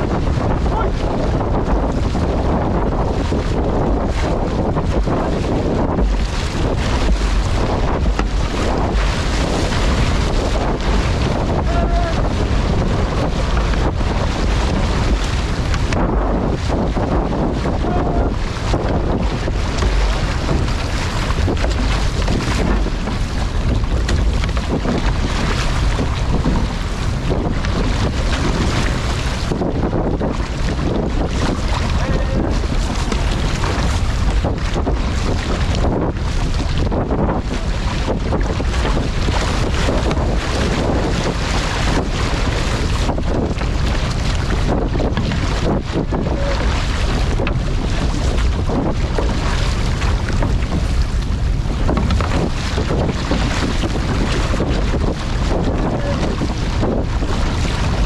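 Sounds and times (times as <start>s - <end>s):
water splashing along hull: 0.0s - 58.0s
wind buffeting microphone: 0.0s - 58.0s.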